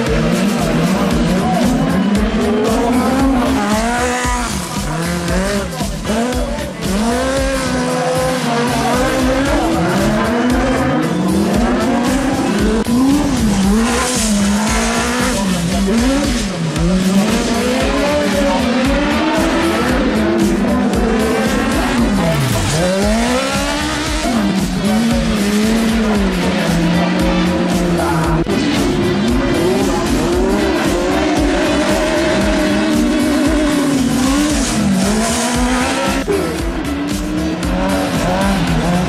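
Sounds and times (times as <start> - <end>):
buggy engines revving: 0.0 - 39.0.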